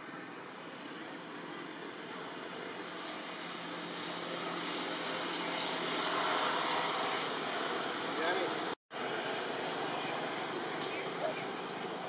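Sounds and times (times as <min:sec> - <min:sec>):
distant engine drone: 0:00.0 - 0:12.0.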